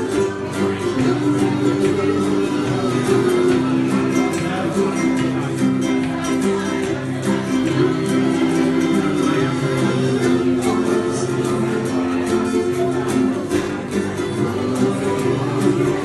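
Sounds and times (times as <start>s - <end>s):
ukulele strumming chords: 0.0s - 16.0s.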